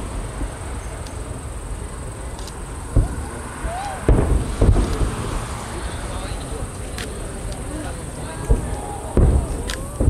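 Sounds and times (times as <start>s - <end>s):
distant fireworks booming: 0.0s - 10.0s
insects chirring: 0.0s - 10.0s.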